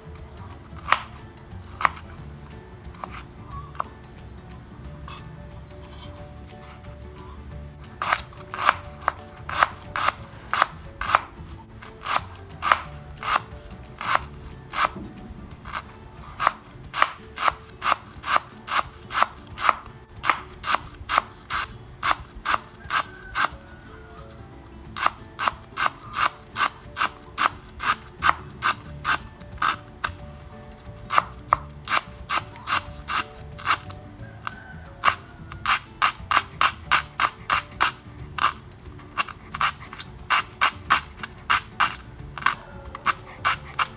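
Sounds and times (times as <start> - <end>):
knife slicing on bamboo board: 0.8 - 1.1, 1.7 - 2.1, 2.9 - 3.9, 8.0 - 23.6, 25.0 - 43.9.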